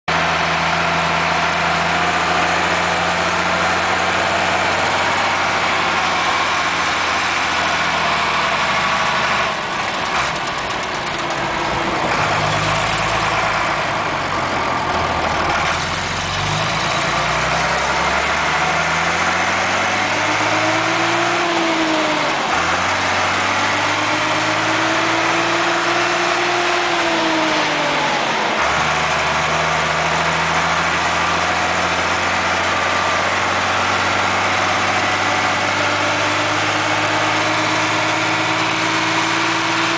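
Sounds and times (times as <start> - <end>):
tractor diesel engine running: 0.1 - 39.9.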